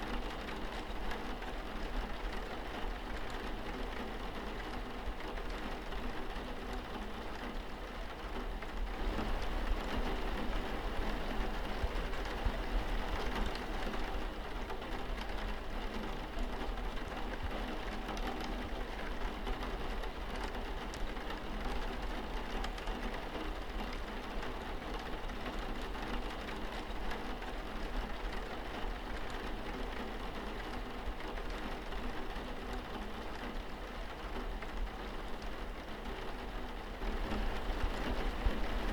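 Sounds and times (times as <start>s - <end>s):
rain on a window pane: 0.0s - 38.9s.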